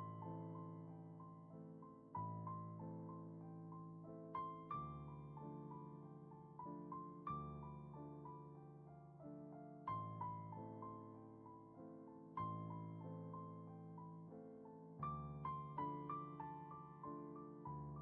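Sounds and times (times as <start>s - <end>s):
soft solo piano: 0.0s - 18.0s.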